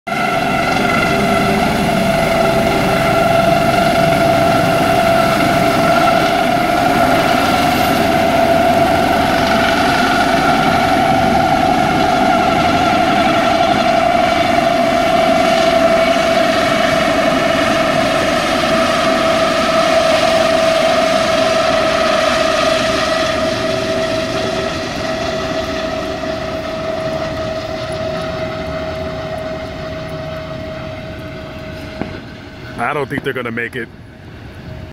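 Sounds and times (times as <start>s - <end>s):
helicopter rotors rushing: 0.1s - 34.9s
helicopter turbine whine: 0.1s - 34.9s.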